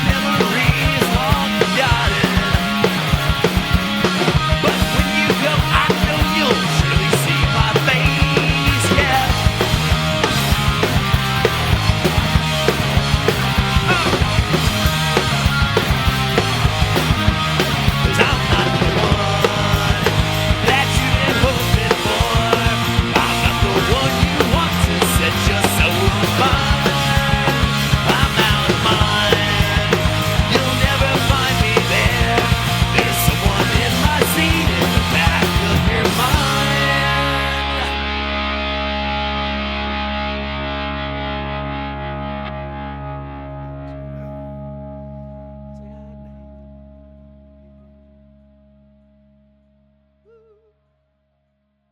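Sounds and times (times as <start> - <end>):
punk rock band playing: 0.0 - 45.0
distorted electric guitar chord: 0.0 - 50.0.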